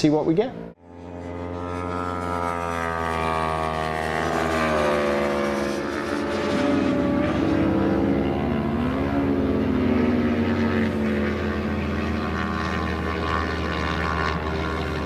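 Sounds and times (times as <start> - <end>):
motorcycles passing at high revs: 0.0 - 15.0.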